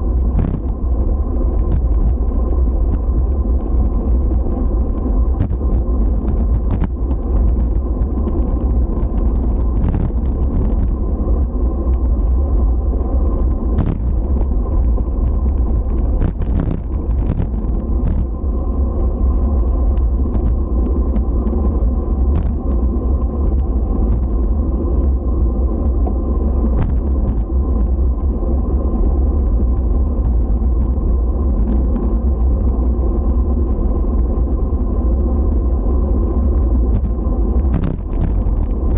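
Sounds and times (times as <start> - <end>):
low rumble of road travel: 0.0 - 38.9.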